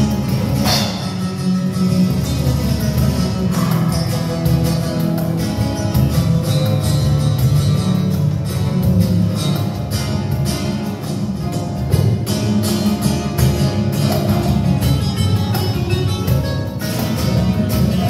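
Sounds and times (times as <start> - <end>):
flamenco guitar music: 0.0 - 18.0.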